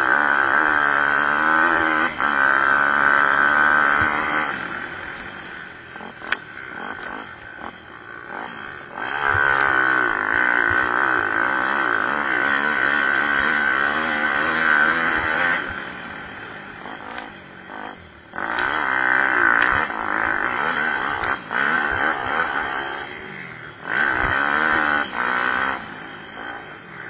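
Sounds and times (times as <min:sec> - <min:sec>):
pit bike engines revving: 0:00.0 - 0:27.0.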